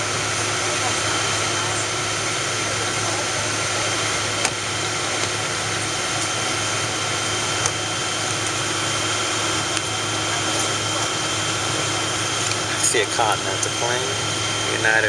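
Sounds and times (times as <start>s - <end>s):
cabin air: 0.0s - 15.0s
jet engines humming and whining: 0.0s - 15.0s.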